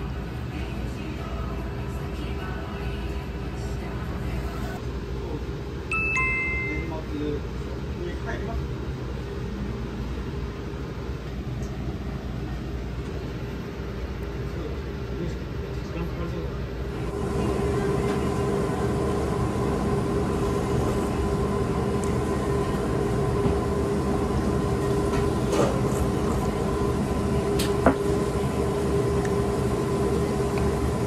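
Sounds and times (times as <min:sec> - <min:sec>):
droning room hum: 0:00.0 - 0:31.0.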